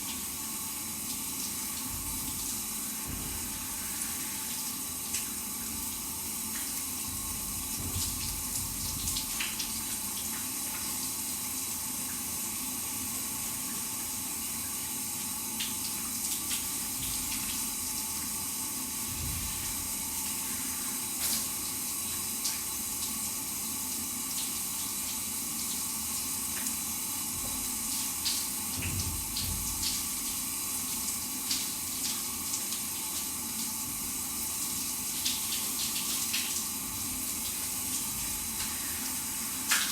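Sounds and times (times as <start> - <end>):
shower running: 0.0 - 39.9
water splashes and drips: 1.0 - 12.4, 15.6 - 23.5, 24.2 - 39.9.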